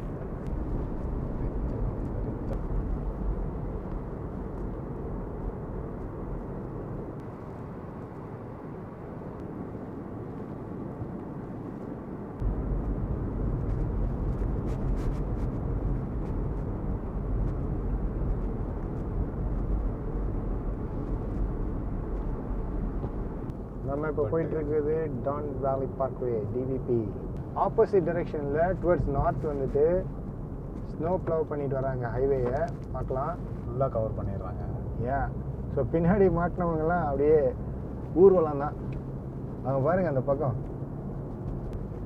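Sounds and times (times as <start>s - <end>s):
car rumble from inside: 0.0s - 9.2s, 12.1s - 42.0s
road and wind noise: 0.0s - 42.0s.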